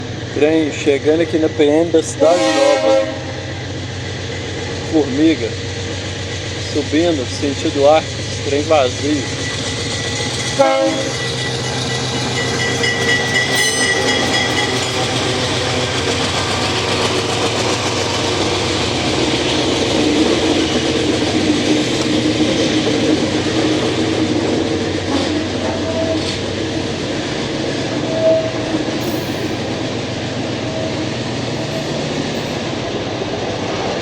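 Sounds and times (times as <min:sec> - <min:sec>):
freight train rumbling: 0:00.0 - 0:34.0.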